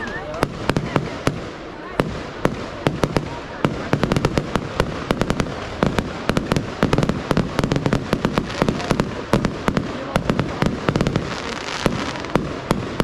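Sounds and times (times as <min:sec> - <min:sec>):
fireworks bangs: 0:00.0 - 0:13.0
fireworks rumble and crackle: 0:00.0 - 0:13.0.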